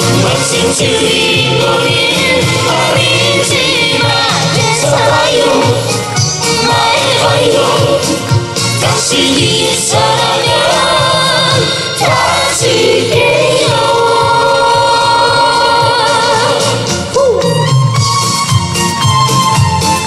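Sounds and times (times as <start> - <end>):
group singing harmonies: 0.0 - 17.4
backing track with steady beat: 0.0 - 20.0.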